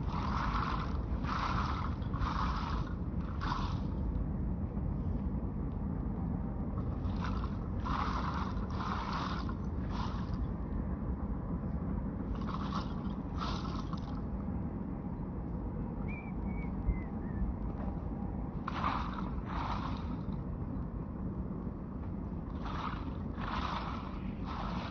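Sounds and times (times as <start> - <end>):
low rumble: 0.0 - 24.9.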